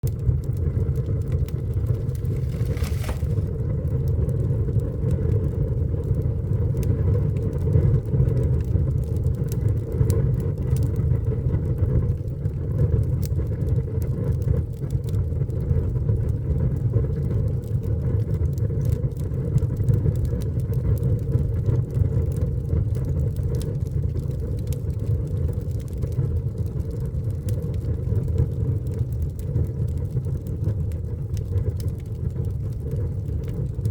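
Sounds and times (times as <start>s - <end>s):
fire crackling in a fireplace: 0.0s - 33.9s.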